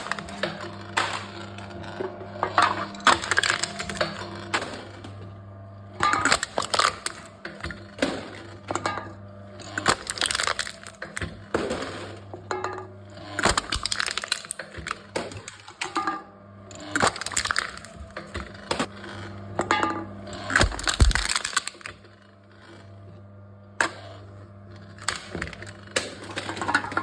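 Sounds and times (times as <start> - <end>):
machine crushing cans: 0.0 - 23.1, 23.8 - 27.0.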